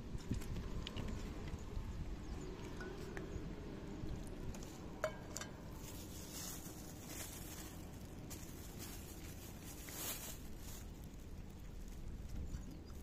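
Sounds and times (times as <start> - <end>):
cats chewing and licking food: 0.0 - 13.0.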